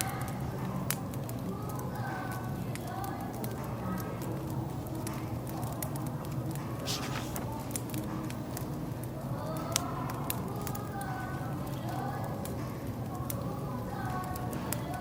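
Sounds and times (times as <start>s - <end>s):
low chatter of voices: 0.0s - 15.0s
wood fire crackling and popping: 0.8s - 15.0s.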